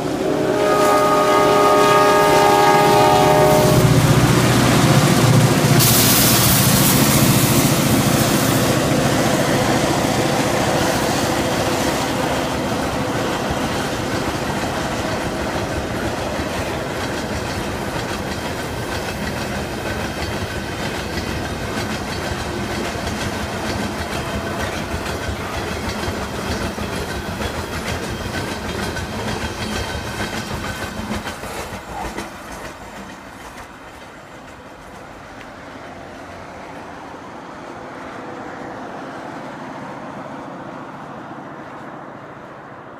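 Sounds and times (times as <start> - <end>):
train wheels clattering on rails: 0.0 - 37.1
diesel locomotive passing: 0.0 - 42.9.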